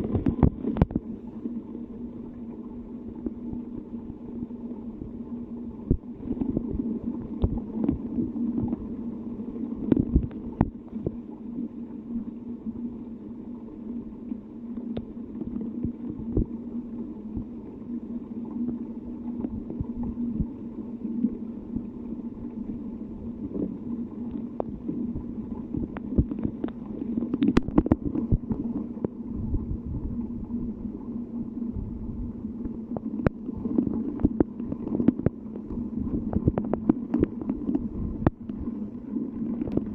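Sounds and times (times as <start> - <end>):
low rumbling of wind and rain: 0.0 - 39.9.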